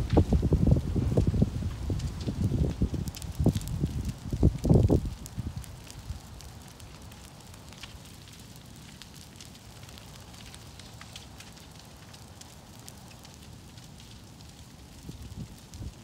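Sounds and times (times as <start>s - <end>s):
rush of flame: 0.0s - 16.0s
wood crackling and popping: 0.0s - 16.0s.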